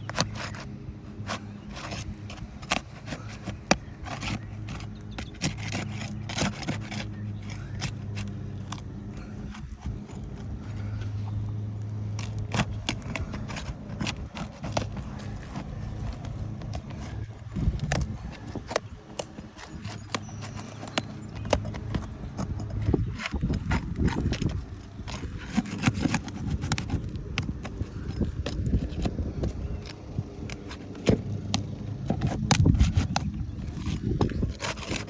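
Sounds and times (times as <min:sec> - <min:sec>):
bar scraping under shingles: 0:00.0 - 0:35.0.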